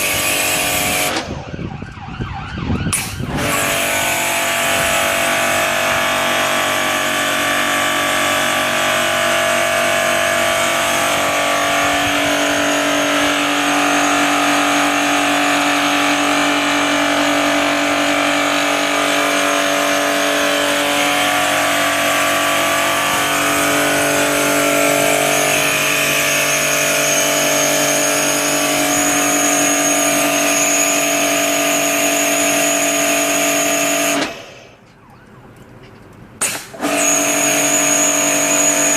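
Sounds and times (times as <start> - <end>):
pressure washer running: 0.0 - 1.4, 2.9 - 34.8, 36.4 - 38.9.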